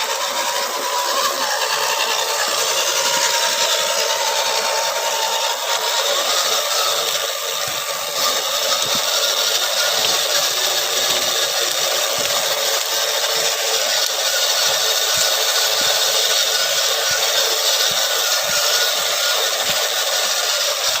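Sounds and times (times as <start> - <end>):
electric motor whirring: 0.0 - 21.0.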